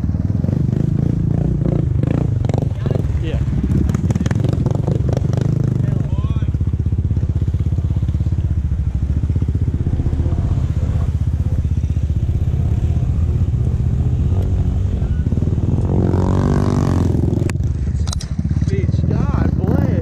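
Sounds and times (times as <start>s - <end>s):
atv engine idling: 0.0s - 16.0s, 17.0s - 20.0s.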